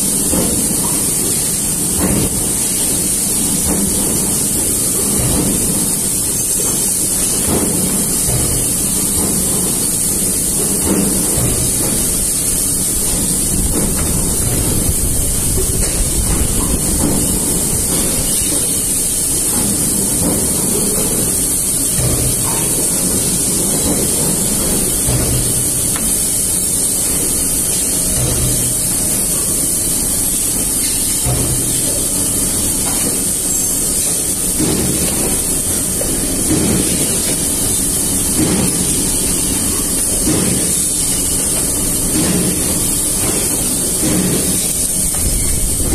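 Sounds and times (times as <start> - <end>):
low machine rumble: 0.0 - 45.9.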